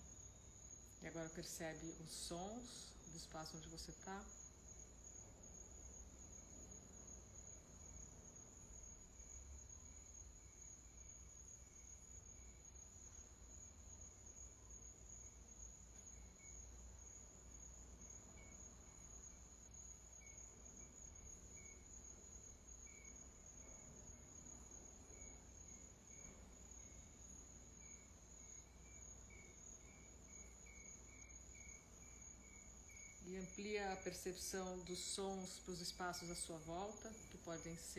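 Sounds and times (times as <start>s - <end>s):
crickets trilling: 0.0s - 37.9s.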